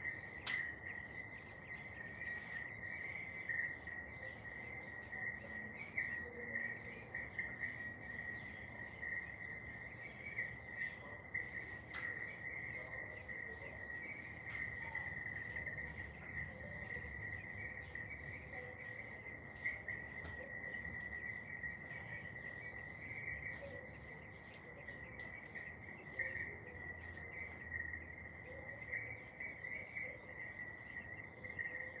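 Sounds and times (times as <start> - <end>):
crickets trilling: 0.0 - 32.0
faint bird chirps: 0.0 - 32.0.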